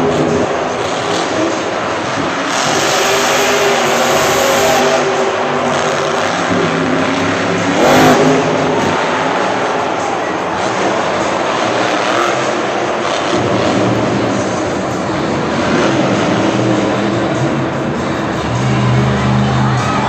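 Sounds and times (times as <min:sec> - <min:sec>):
truck engine revving loudly: 0:00.0 - 0:20.0.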